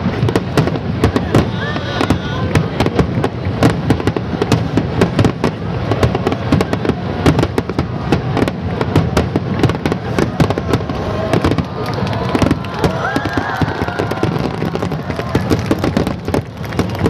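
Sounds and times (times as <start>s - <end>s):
continuous low rumble: 0.0s - 17.0s
fireworks bangs and crackles: 0.0s - 17.0s.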